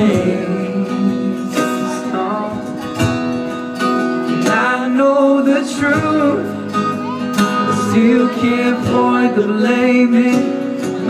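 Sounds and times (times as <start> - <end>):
acoustic guitar strumming: 0.0 - 11.0
man singing: 0.0 - 11.0
pop-rock band playing: 0.0 - 11.0.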